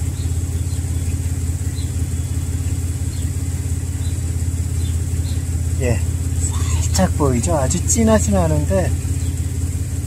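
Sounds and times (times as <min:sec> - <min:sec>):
car exhaust idling: 0:00.0 - 0:10.0.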